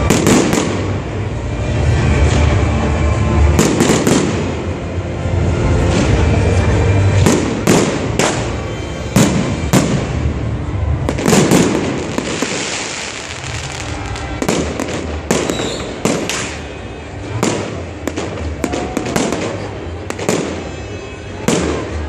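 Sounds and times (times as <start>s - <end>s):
fireworks bursting with echoes: 0.0s - 22.0s.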